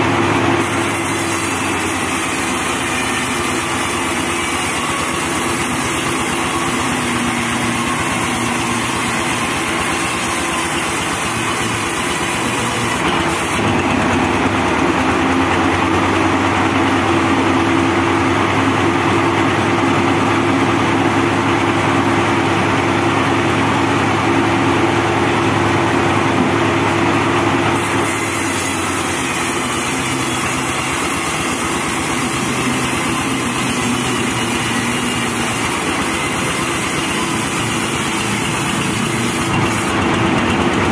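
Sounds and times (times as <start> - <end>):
band saw blade cutting log: 0.0 - 40.9
diesel sawmill engine running: 0.0 - 40.9.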